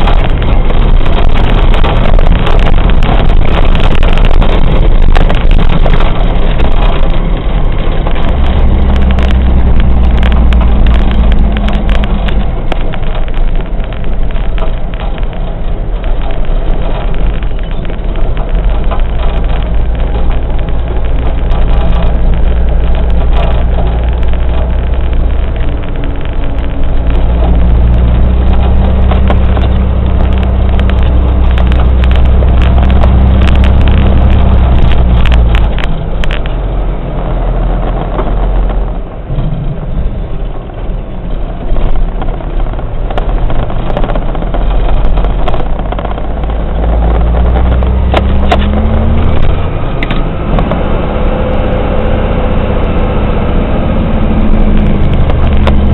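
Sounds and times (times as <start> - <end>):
heavy diesel truck engine running: 0.0 - 55.9.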